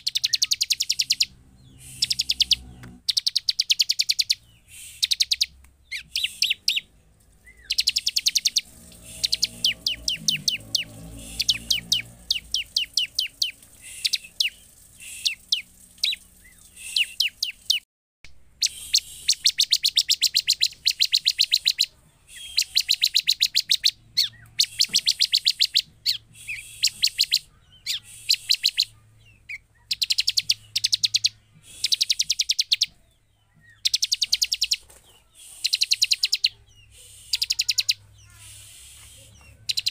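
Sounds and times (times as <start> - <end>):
bird calling with fast high chips: 0.0 - 17.8, 18.6 - 39.9.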